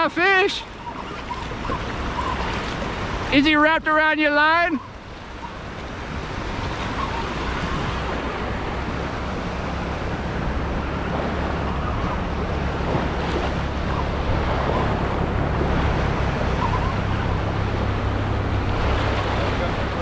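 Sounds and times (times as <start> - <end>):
surf breaking and washing: 0.0 - 20.0
wind rumbling on microphone: 0.0 - 20.0.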